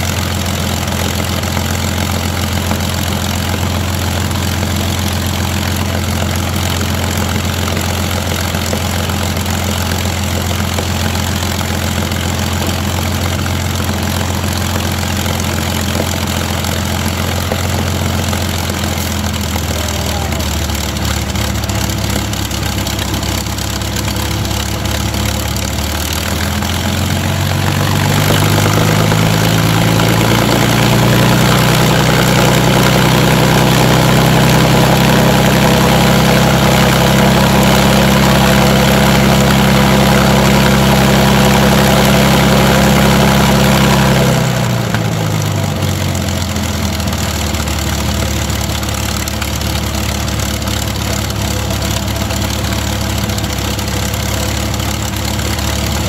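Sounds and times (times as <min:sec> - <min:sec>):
propeller aircraft engine: 0:00.0 - 0:56.0.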